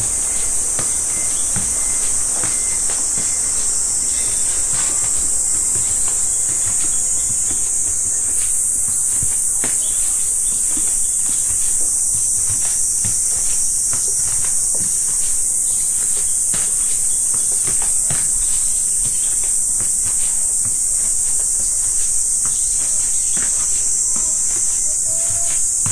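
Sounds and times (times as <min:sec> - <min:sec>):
cicadas buzzing: 0:00.0 - 0:25.9.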